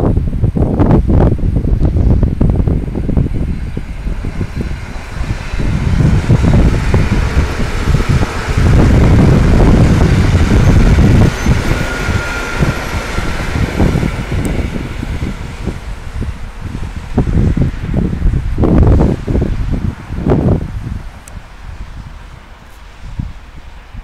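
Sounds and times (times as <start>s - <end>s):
wind buffeting microphone: 0.0s - 24.0s
electric train running: 1.0s - 24.0s.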